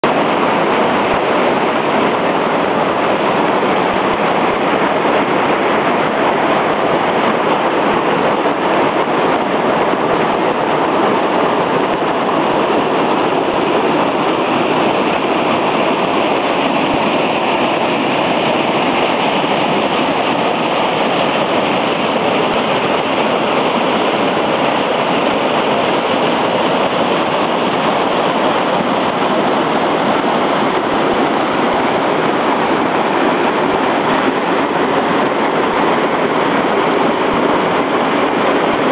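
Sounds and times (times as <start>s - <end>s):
waterfall rushing over rocks: 0.0s - 38.9s.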